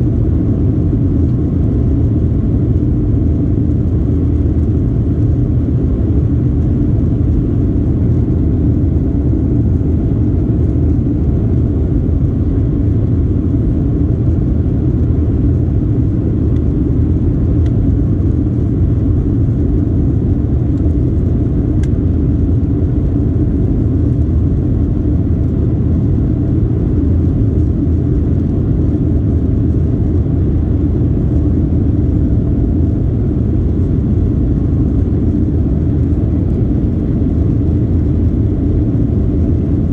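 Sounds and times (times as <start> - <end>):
airliner cabin rumble in flight: 0.0 - 39.9.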